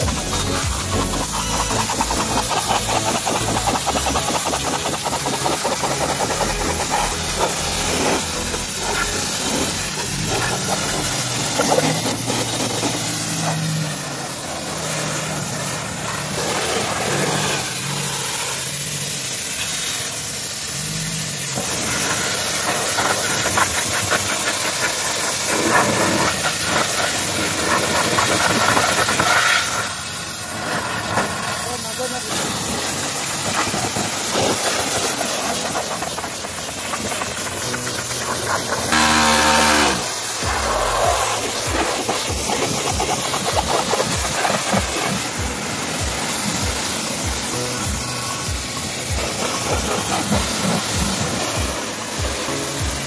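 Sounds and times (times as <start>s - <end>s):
pressure washer motor humming: 0.0s - 53.0s
pressure washer water hissing: 0.0s - 53.0s.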